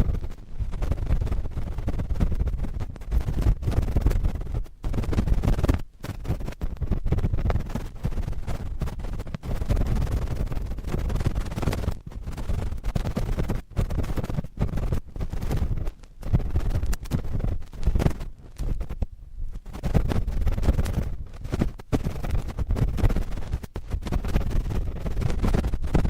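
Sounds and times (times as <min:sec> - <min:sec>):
cotton swab scratching microphone: 0:00.0 - 0:26.0.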